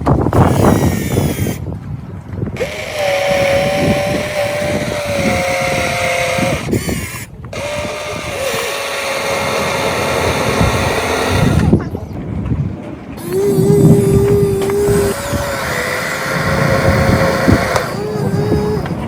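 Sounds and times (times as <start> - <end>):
small electric motor whining: 0.3 - 1.6, 2.6 - 11.8, 13.2 - 19.0.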